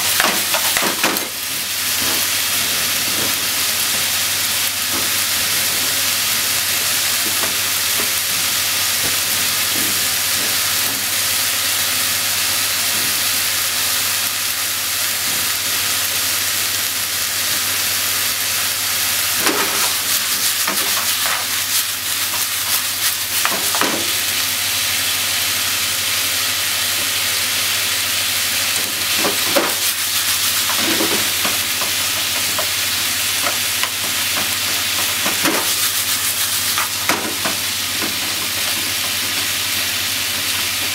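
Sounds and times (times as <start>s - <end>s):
food sizzling in a frying pan: 0.0s - 40.9s.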